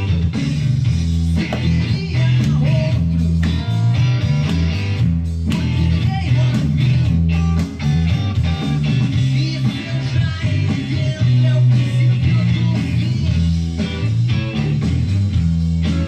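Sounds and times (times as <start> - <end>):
rock music with electric guitar: 0.0 - 16.0.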